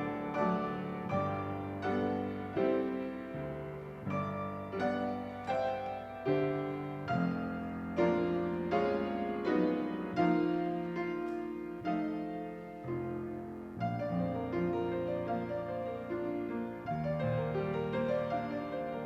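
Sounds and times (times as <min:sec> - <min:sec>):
piano playing slow chords: 0:00.0 - 0:19.0.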